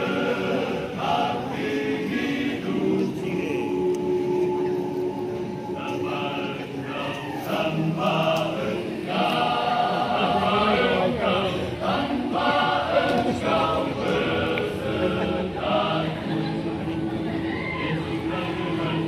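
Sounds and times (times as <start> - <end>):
choir singing unaccompanied: 0.0 - 19.0.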